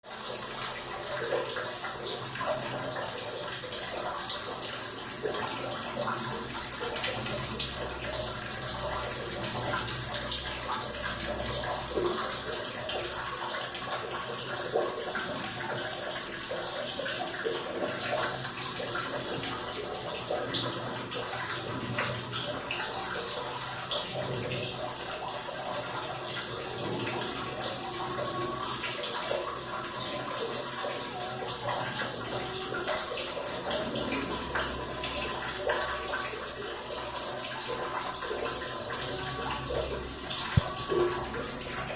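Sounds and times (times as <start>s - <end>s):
water running and splashing: 0.0s - 41.9s.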